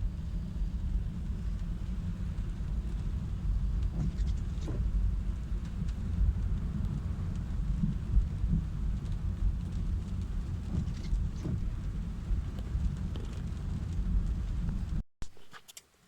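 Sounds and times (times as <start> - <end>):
car rumbling on road: 0.0 - 15.0
hiss of rain: 0.0 - 15.0.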